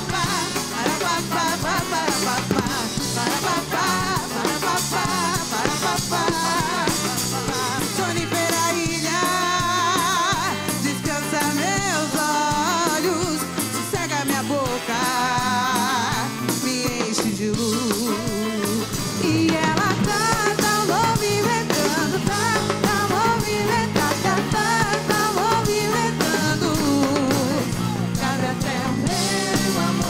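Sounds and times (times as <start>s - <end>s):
drum kit beat: 0.0s - 30.0s
electric guitar: 0.0s - 30.0s
woman singing: 0.0s - 30.0s.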